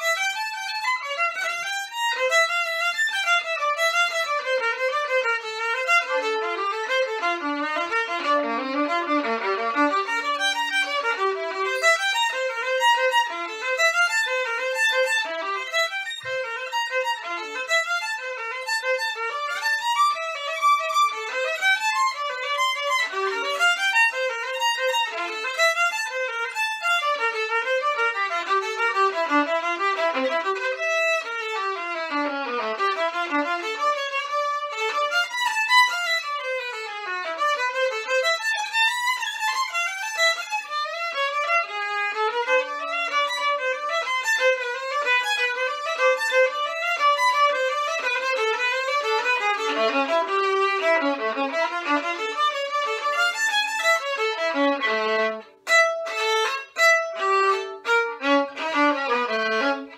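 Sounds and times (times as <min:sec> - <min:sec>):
solo violin playing fast runs: 0:00.0 - 0:59.9.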